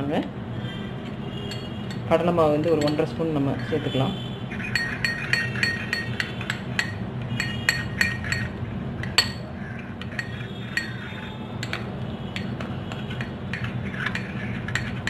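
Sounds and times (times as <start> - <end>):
spoon clinking against glass bowls: 1.5 - 3.9, 4.5 - 15.0.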